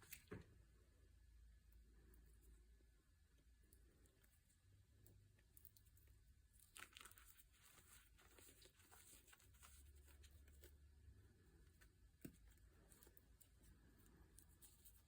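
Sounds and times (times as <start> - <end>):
faint crinkling and crackling: 1.8 - 15.0.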